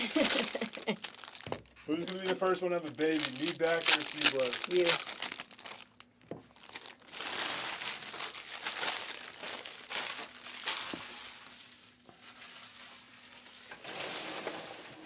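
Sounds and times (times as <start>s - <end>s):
plastic wrappers crinkling and tearing: 0.0s - 15.0s.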